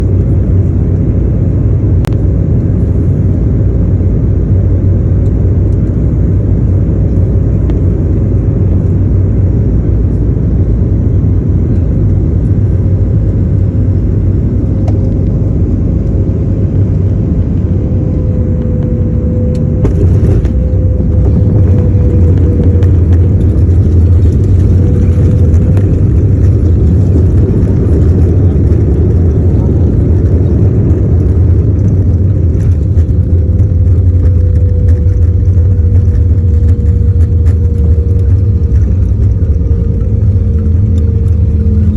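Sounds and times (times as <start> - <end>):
airplane engines rumbling: 0.0 - 41.9
faint whine: 0.0 - 41.9.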